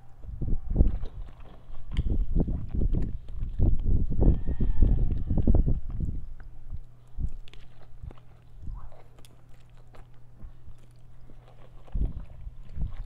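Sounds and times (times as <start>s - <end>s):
steady low hum: 0.0s - 13.0s
person chewing noodles: 0.9s - 13.0s.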